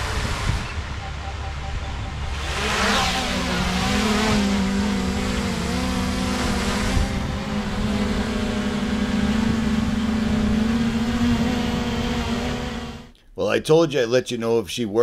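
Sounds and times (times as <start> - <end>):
drone buzzing whine: 0.0 - 13.2.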